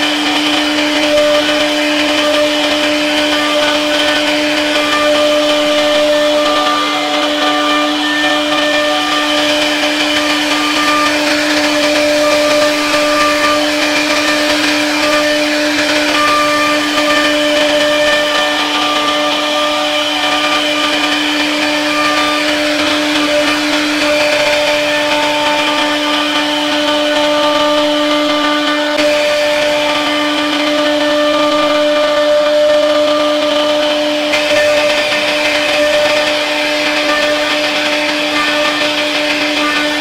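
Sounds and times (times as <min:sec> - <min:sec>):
router motor whine: 0:00.0 - 0:40.0.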